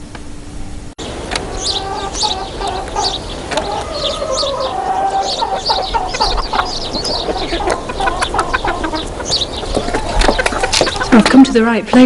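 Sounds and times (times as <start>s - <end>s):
chickens clucking: 1.0s - 12.0s.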